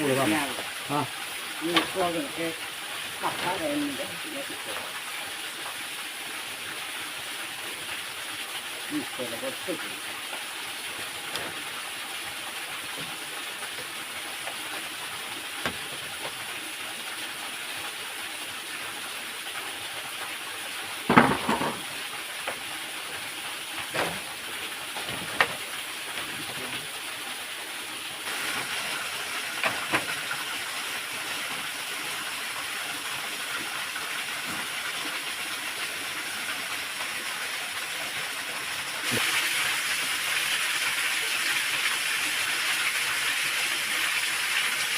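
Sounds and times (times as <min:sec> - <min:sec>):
waterfall rushing hiss: 0:00.0 - 0:44.9.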